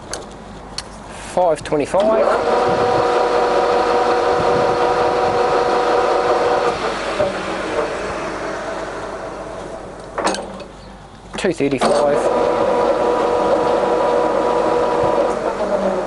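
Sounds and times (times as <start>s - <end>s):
lathe gears whining: 1.9s - 10.8s, 11.8s - 16.0s.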